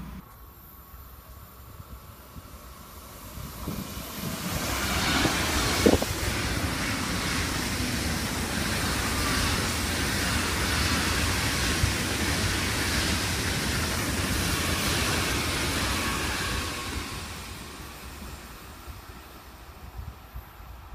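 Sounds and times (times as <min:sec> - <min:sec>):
train passing close by: 0:00.0 - 0:20.9.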